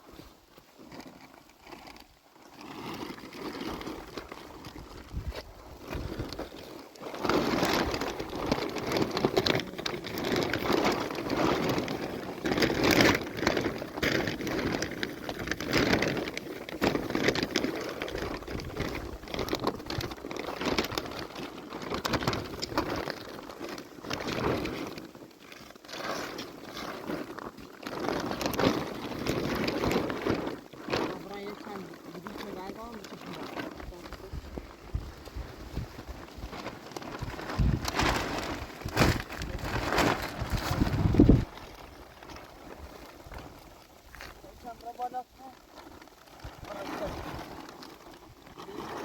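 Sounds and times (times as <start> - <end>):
plastic sheeting rustling: 0.0 - 49.0.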